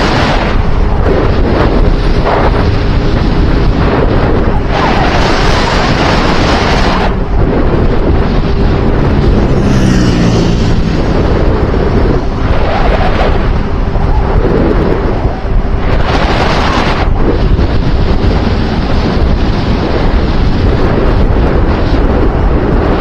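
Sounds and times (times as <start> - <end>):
wind buffeting the microphone: 0.0 - 23.0.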